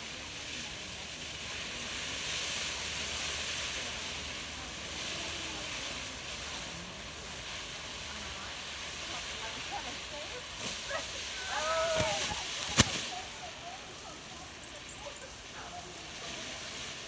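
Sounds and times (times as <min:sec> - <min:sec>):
firework fountain hissing: 0:00.0 - 0:17.0.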